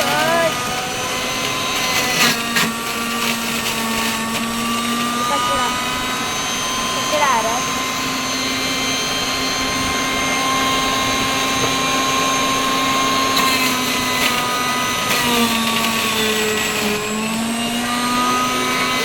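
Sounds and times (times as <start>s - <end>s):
mixer grinder motor whining: 0.0s - 19.0s.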